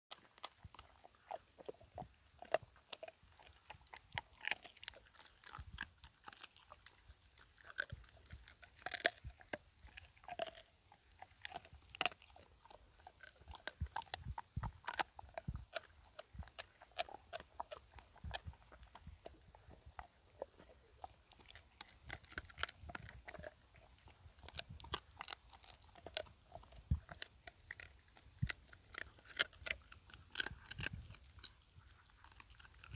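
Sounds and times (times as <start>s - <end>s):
bone cracking: 0.1s - 32.9s
dog chewing bones: 0.1s - 32.9s.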